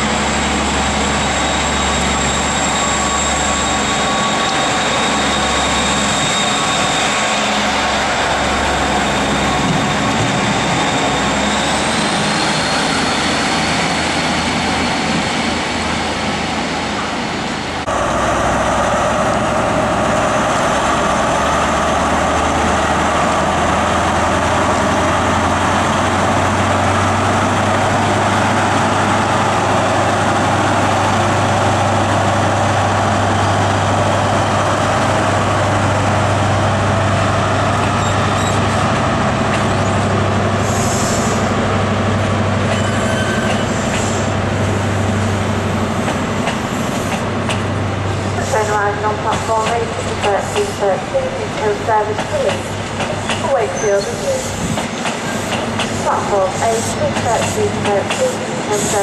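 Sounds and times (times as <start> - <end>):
diesel train engine pulling away: 0.0 - 59.0.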